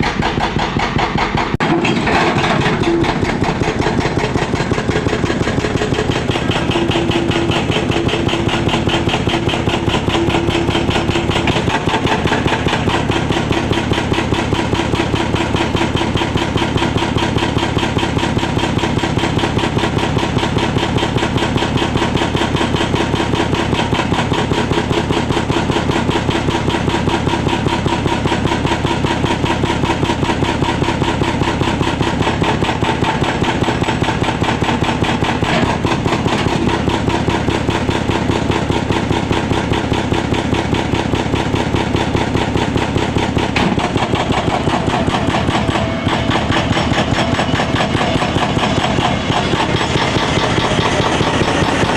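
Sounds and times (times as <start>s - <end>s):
diesel engine running: 0.0s - 51.9s
hydraulic breaker hammering: 0.0s - 51.9s.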